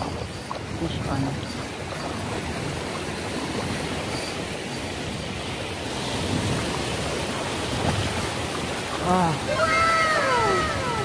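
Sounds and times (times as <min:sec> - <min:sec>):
small waves breaking: 0:00.0 - 0:11.0.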